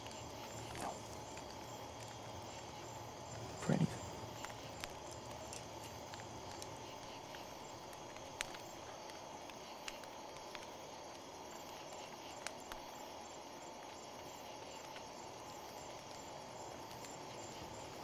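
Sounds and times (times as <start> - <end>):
crickets chirping: 0.0 - 18.0
low hiss: 0.0 - 18.0.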